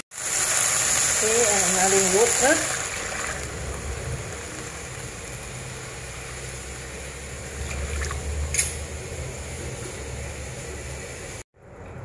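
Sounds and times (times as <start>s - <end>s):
wok low rumble with hiss: 0.1s - 12.0s.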